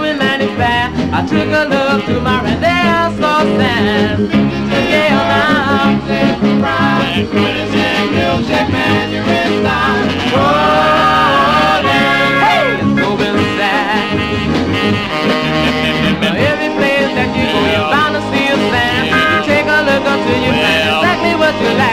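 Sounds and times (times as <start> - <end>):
doo-wop record playing: 0.0 - 21.9.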